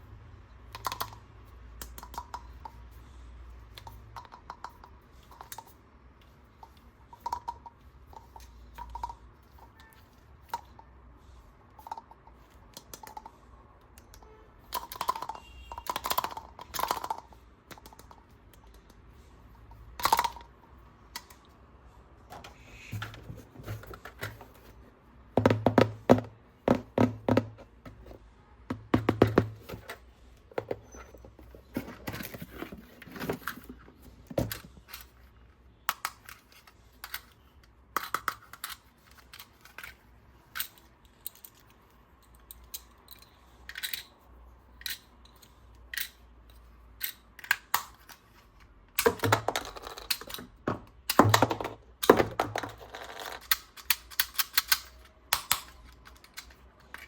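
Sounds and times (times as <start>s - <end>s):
plastic toys clicking and tapping: 0.6s - 3.0s, 3.6s - 21.6s, 25.3s - 57.0s.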